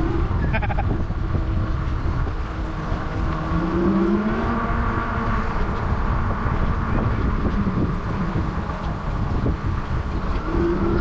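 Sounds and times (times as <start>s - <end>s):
passing motor vehicle hum: 0.0s - 11.0s
wind and road noise: 0.0s - 11.0s.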